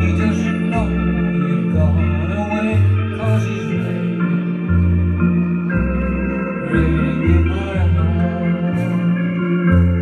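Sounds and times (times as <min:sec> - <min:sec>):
organ music: 0:00.0 - 0:10.0.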